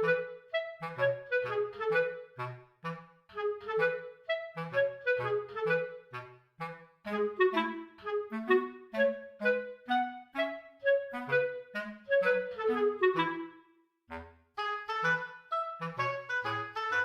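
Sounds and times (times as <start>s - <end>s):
bouncy woodwind tune: 0.0s - 17.0s.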